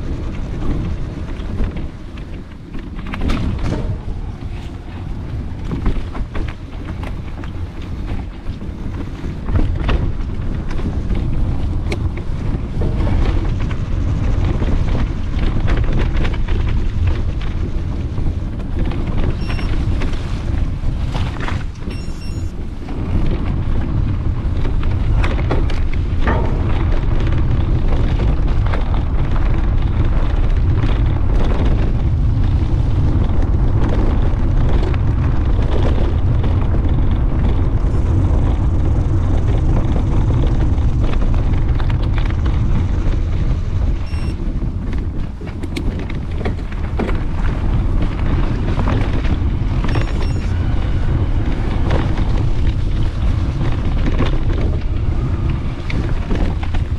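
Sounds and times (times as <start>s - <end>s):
bike knocks and rattles: 0.0s - 56.9s
wind buffeting microphone: 0.0s - 56.9s.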